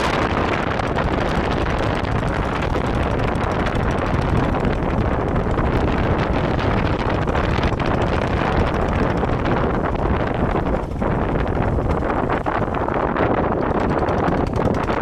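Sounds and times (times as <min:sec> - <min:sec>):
low vehicle rumble: 0:00.0 - 0:15.0
wind rushing over microphone: 0:00.0 - 0:15.0.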